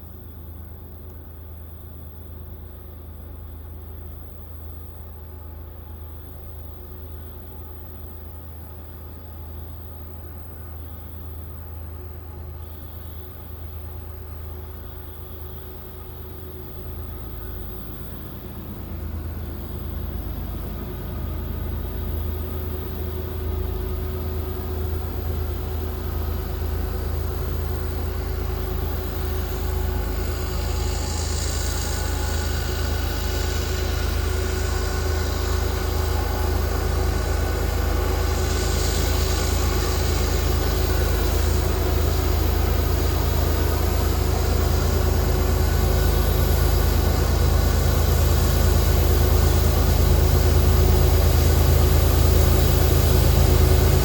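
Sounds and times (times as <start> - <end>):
constant hum: 0.0 - 54.0
diesel locomotive engine drone: 0.0 - 54.0.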